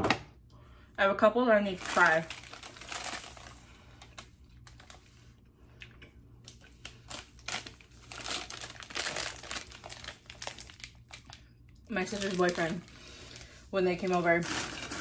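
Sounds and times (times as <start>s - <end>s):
plastic bags crinkling: 1.6s - 5.3s, 6.4s - 15.0s.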